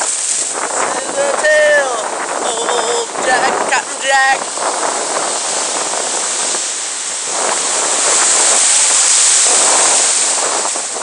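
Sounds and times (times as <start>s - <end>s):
surf breaking over shallows: 0.0s - 11.0s.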